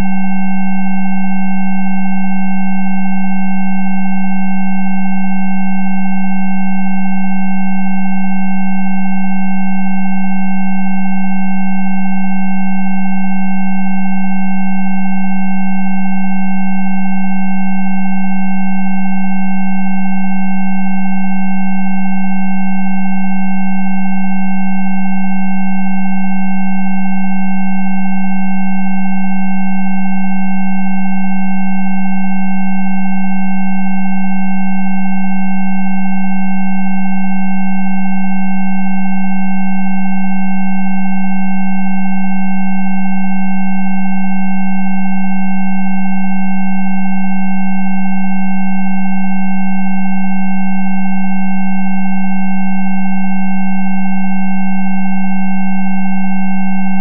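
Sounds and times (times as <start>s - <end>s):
fainter high sine tones: 0.0s - 57.0s.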